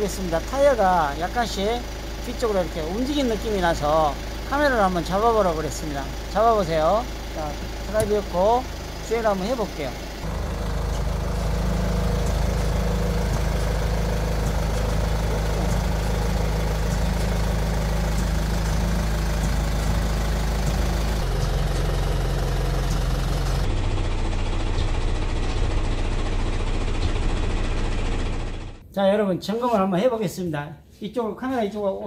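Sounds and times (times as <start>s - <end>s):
car engine low hum: 0.0s - 28.8s.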